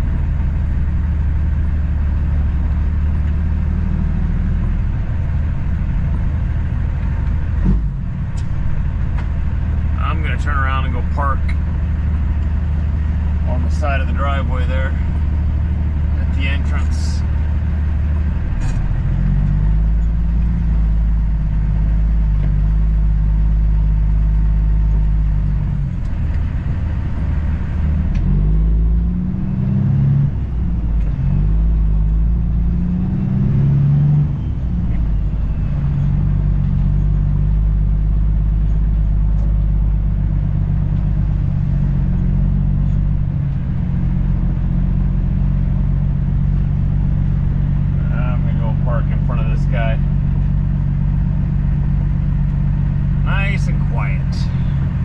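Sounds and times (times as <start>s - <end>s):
truck diesel engine: 0.0s - 55.0s.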